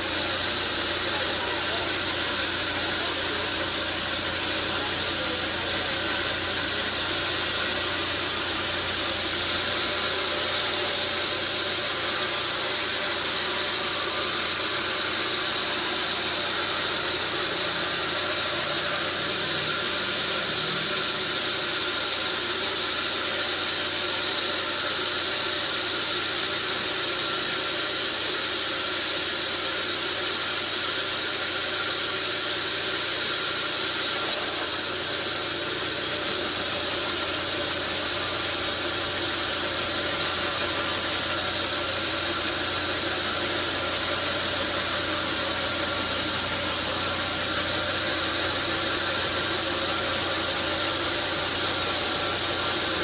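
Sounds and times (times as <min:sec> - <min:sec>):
sawmill machinery hissing: 0:00.0 - 0:53.0.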